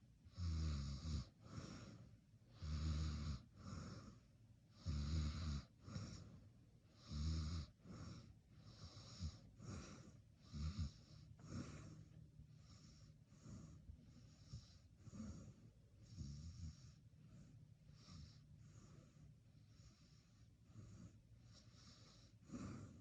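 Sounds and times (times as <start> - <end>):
person snoring: 0.3 - 4.2, 4.8 - 6.3, 7.0 - 17.0, 17.9 - 23.0.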